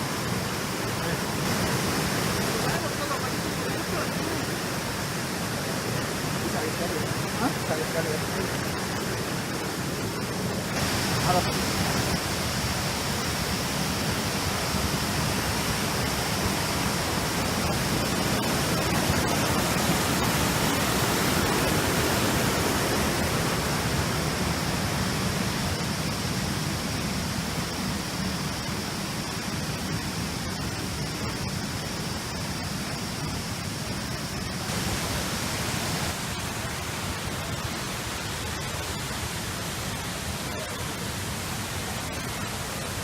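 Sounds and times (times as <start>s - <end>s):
rushing mountain water: 0.0s - 43.0s.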